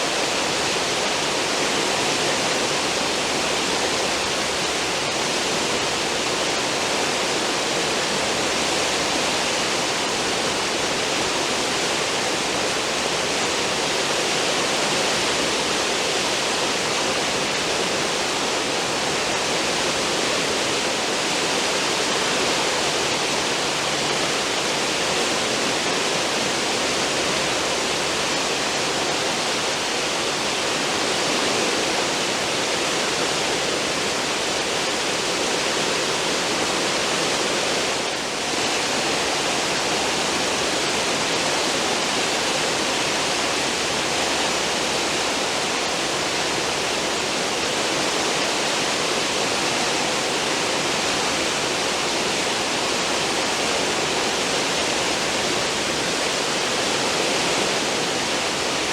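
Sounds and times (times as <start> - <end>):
sea water rushing and churning: 0.0 - 58.9.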